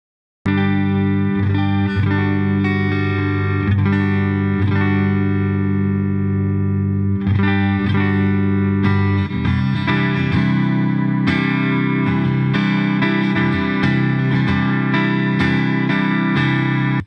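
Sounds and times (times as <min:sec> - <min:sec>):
electric guitar chords ringing: 0:00.5 - 0:17.0.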